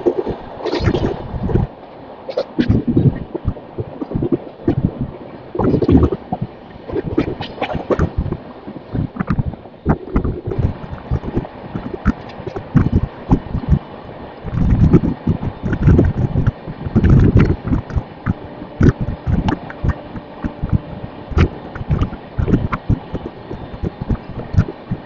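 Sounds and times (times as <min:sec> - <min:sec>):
train rumbling: 0:00.0 - 0:25.0
wind buffeting microphone: 0:00.0 - 0:25.0.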